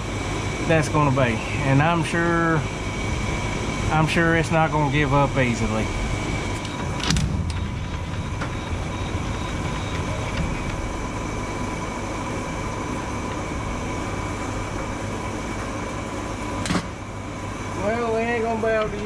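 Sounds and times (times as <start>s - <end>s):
faint high whines: 0.0s - 19.0s
mechanical drone with hum: 0.0s - 19.0s.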